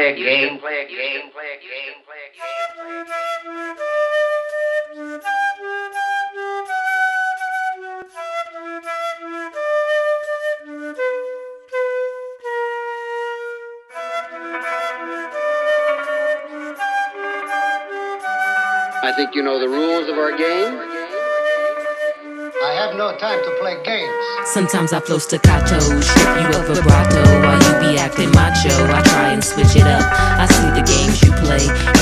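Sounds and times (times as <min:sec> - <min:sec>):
flute melody: 0:02.4 - 0:32.0.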